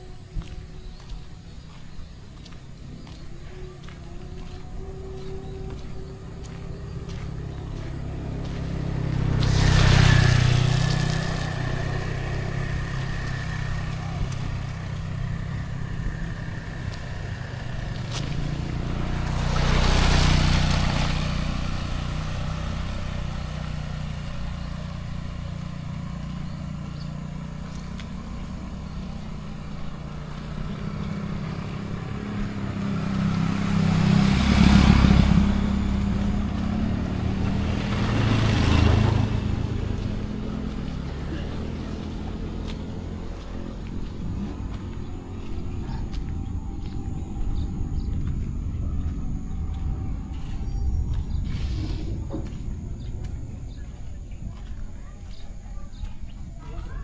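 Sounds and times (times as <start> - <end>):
low engine running: 0.0 - 57.0
vehicles passing on road: 0.0 - 57.0.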